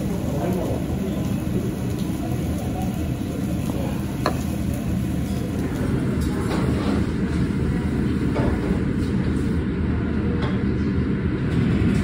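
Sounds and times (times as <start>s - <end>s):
faint murmur of voices: 0.0s - 12.0s
restaurant room rumble: 0.0s - 12.0s.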